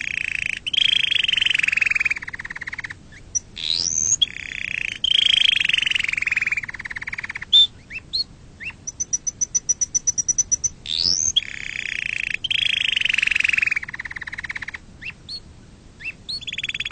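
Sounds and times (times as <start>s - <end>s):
canary singing: 0.0s - 16.9s.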